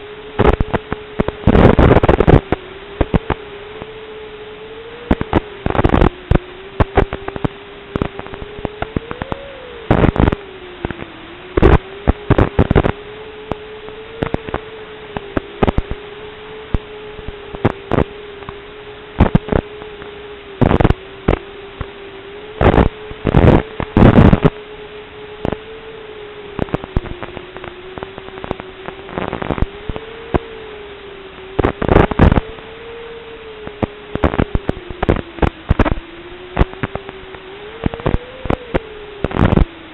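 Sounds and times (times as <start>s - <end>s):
bursts of static crackle: 0.0s - 39.9s
faint wavering hum: 0.0s - 39.9s
steady hiss: 0.0s - 39.9s.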